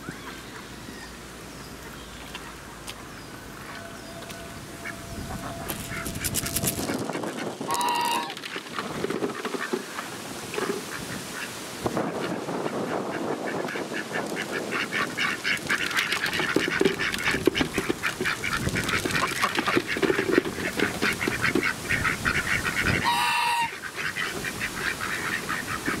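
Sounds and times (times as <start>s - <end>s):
ducks and geese calling: 0.0s - 26.0s.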